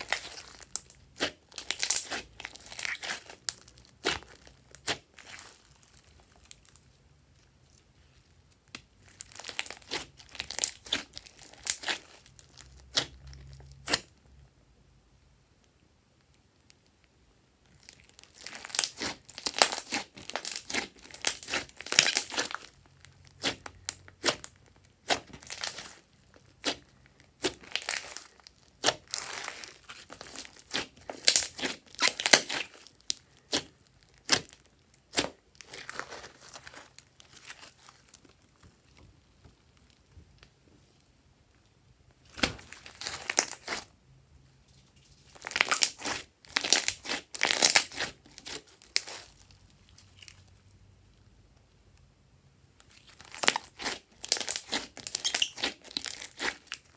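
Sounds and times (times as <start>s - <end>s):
slime crackling and popping: 0.0s - 14.2s, 17.6s - 40.5s, 42.2s - 43.9s, 45.0s - 50.6s, 52.8s - 56.9s.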